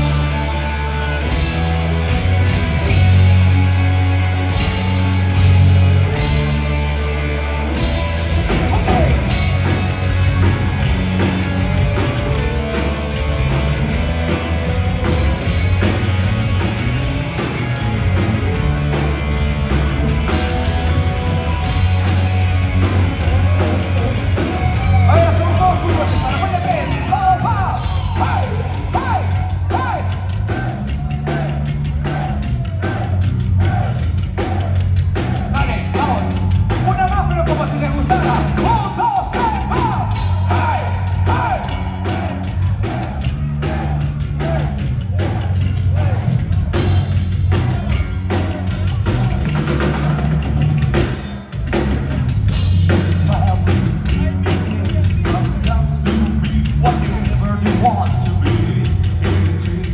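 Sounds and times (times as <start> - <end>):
distorted guitars: 0.0 - 59.9
heavy metal band playing: 0.0 - 59.9
fast drum kit: 1.2 - 7.0, 7.8 - 59.9.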